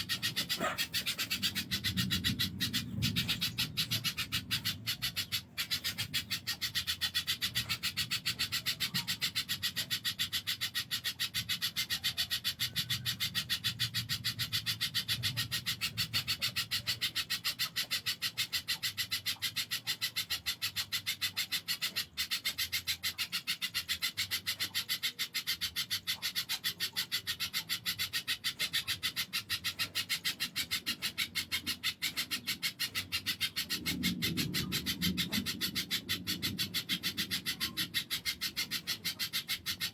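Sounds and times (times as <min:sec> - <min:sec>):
bird clicking song: 0:00.0 - 0:39.9.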